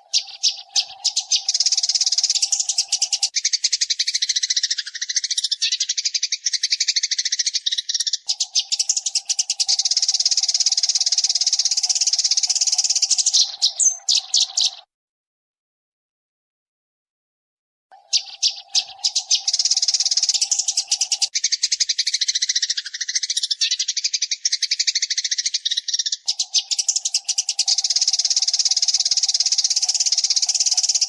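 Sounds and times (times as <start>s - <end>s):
sparrow chattering: 0.0s - 14.9s, 17.9s - 31.0s.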